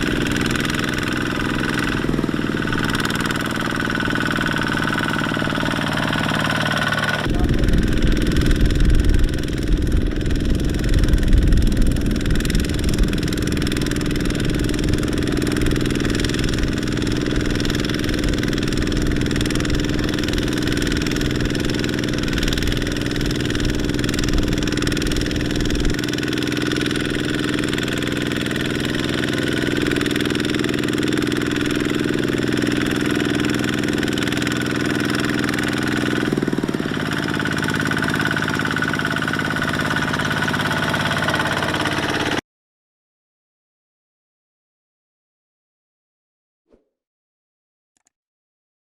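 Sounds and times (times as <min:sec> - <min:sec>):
tractor diesel engine rumbling: 0:00.0 - 0:42.4.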